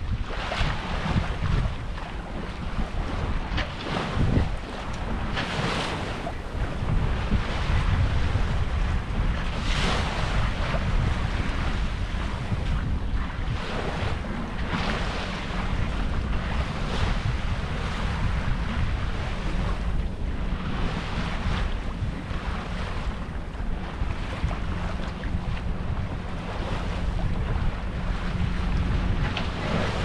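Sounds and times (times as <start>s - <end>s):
water rushing past boat: 0.0s - 30.0s
wind buffeting microphone: 0.0s - 30.0s.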